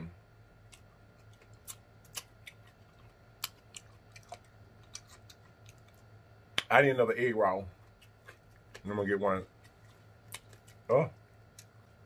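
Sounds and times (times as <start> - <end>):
man chewing crunchy food: 0.6 - 6.7, 7.7 - 12.0.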